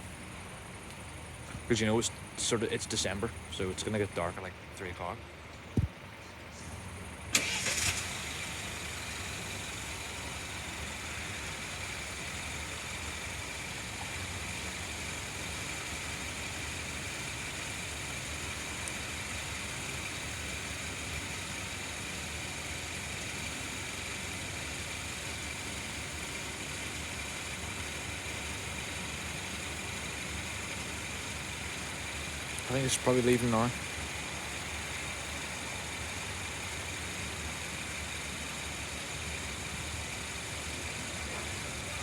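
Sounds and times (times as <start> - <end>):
train diesel engine idling: 0.0 - 42.0.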